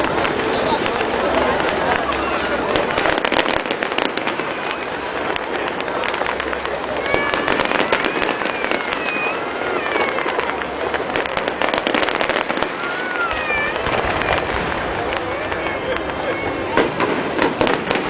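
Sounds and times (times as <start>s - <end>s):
fireworks crackling: 0.0s - 18.0s.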